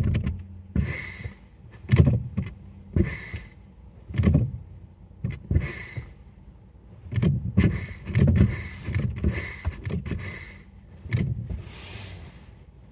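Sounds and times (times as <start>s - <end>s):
brake pedal squishing: 0.0s - 6.3s, 7.0s - 12.6s.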